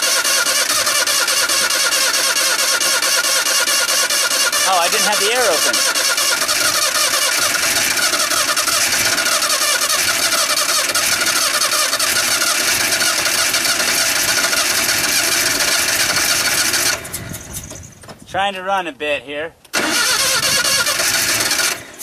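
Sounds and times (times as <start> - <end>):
engine cranking on starter: 0.0 - 18.1, 19.7 - 22.0.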